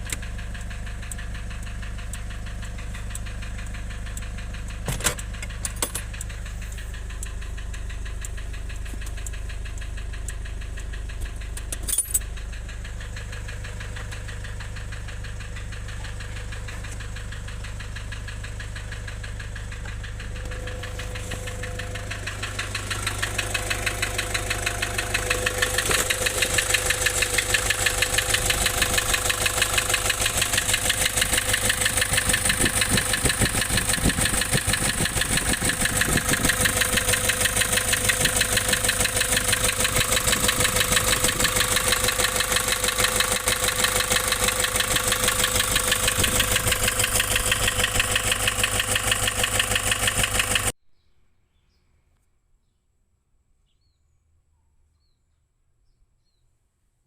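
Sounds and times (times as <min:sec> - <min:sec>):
diesel engine knocking: 0:00.0 - 0:50.7.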